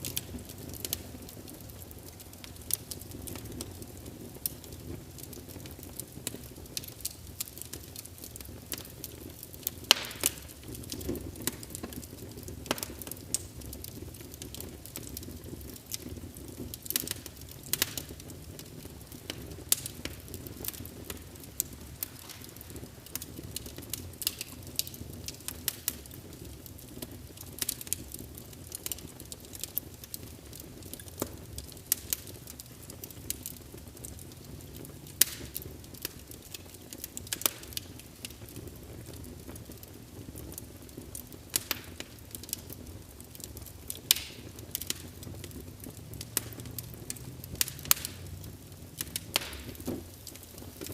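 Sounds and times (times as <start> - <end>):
fire crackling: 0.0 - 50.9
sharp pops and snaps of fire: 0.0 - 50.9.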